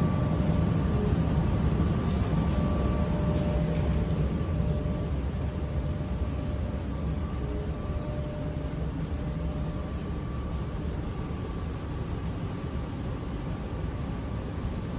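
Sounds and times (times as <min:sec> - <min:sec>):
faint high whine: 0:00.0 - 0:14.9
metro car rumble: 0:00.0 - 0:14.9.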